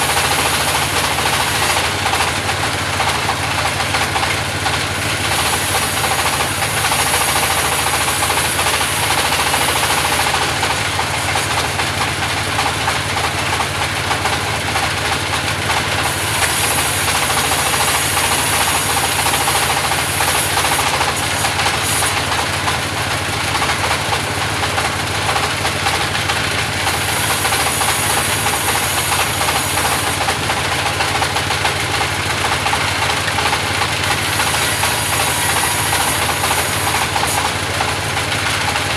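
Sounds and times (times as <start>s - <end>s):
sawmill machine noise: 0.0s - 38.9s.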